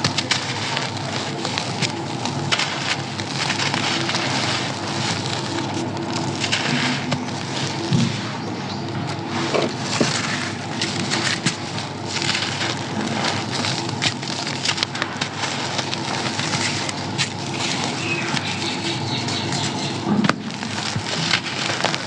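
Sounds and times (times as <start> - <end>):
sand-cement being crushed: 0.0 - 22.0.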